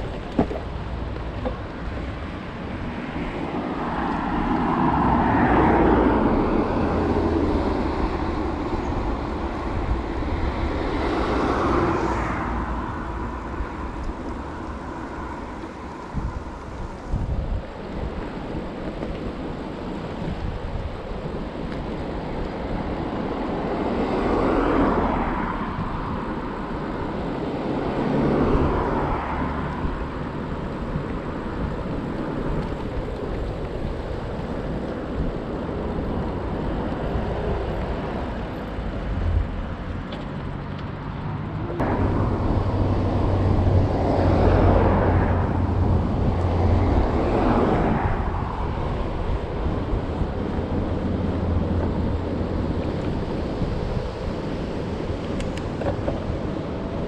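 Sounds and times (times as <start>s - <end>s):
bike tyre noise: 0.0s - 57.0s
passing traffic: 0.0s - 57.0s
wind noise: 0.0s - 57.0s.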